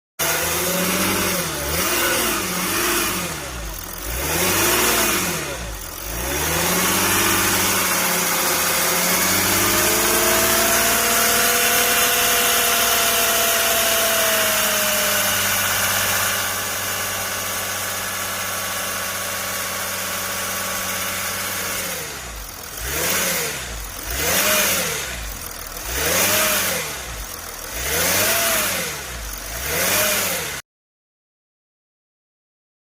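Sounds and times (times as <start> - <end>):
diesel engine revving: 0.2 - 30.6
engine rattle: 0.2 - 30.6.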